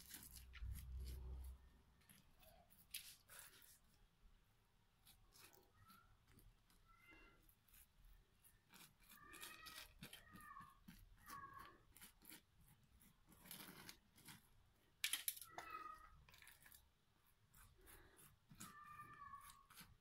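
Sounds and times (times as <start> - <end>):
pastry brush strokes: 0.0 - 15.0, 15.6 - 20.0.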